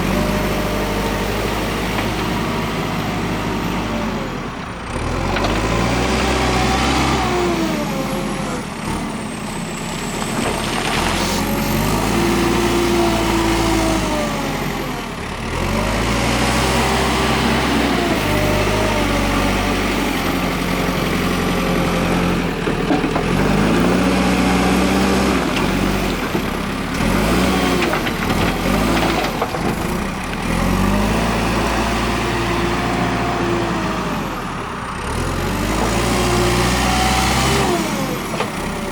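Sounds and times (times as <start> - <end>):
diesel engine working under load: 0.0 - 38.9.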